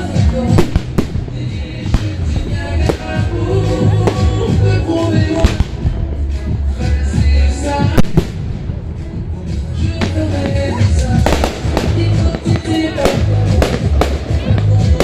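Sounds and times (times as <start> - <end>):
fireworks bangs and crackles: 0.0 - 15.0
loud music: 0.0 - 15.0.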